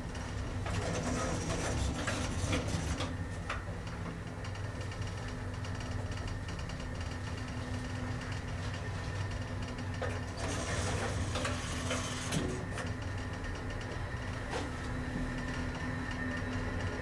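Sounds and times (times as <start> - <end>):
elevator humming in motion: 0.0 - 17.0.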